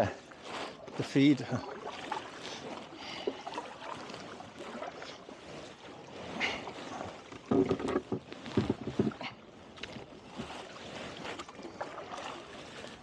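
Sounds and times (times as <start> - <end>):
paddles splashing in water: 0.0 - 13.0.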